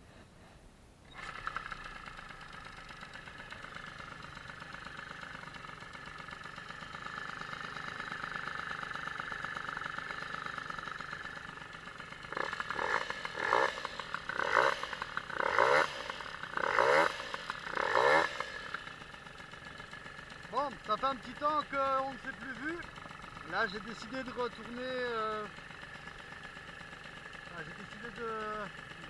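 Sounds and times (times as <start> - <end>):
moped engine idling and revving: 1.1 - 29.0.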